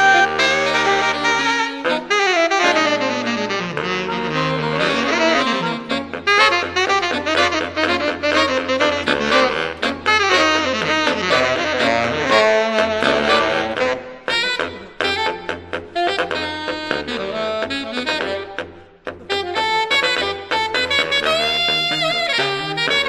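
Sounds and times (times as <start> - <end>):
saxophone quartet playing jazz: 0.0 - 23.0.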